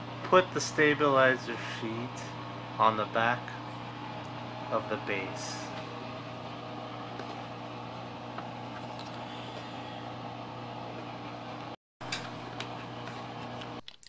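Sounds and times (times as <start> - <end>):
steady machine hum: 0.0 - 13.8.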